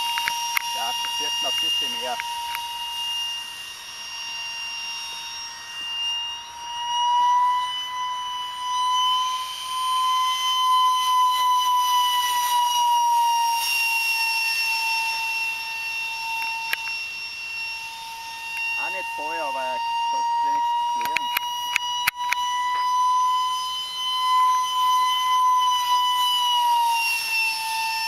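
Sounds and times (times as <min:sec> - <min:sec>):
model aircraft motor whine: 0:00.0 - 0:28.0.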